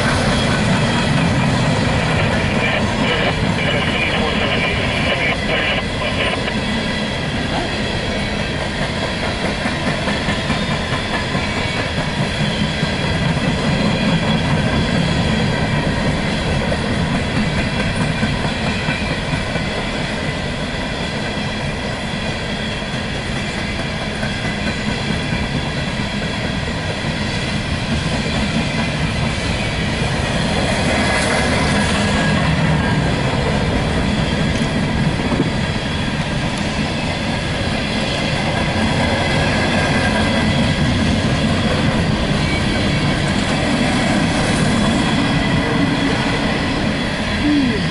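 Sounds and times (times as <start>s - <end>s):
freight train wheels clattering: 0.0s - 47.4s.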